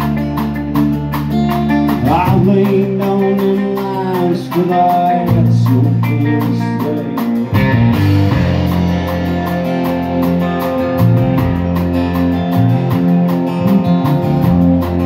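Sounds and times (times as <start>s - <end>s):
drum kit: 0.0s - 15.0s
electric and acoustic guitars: 0.0s - 15.0s
electric bass: 0.0s - 15.0s
steady cymbal beat: 0.0s - 15.0s.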